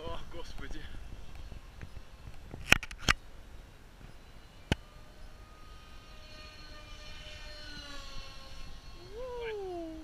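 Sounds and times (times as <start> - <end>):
model jet motor whine: 0.0 - 3.2, 4.0 - 10.0.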